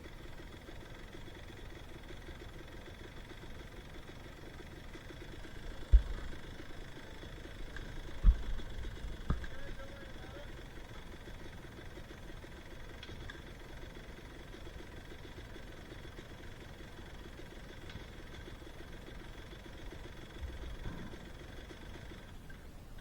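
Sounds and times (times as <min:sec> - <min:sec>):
dirt bike engine idling: 0:00.0 - 0:23.0.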